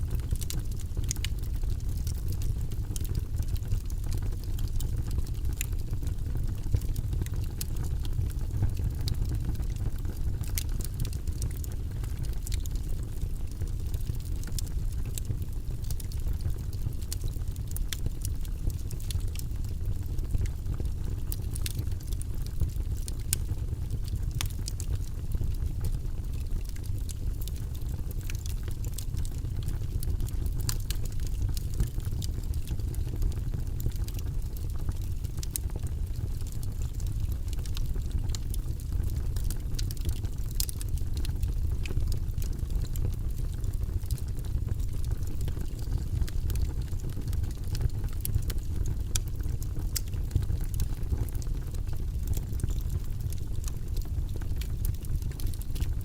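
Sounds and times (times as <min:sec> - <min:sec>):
fire rumbling in fireplace: 0:00.0 - 0:56.0
wood crackling and popping: 0:00.0 - 0:56.0.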